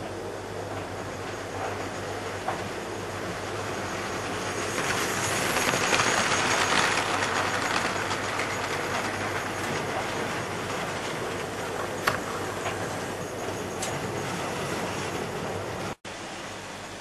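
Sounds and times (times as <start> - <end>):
model train wheels on rails: 0.7 - 16.0.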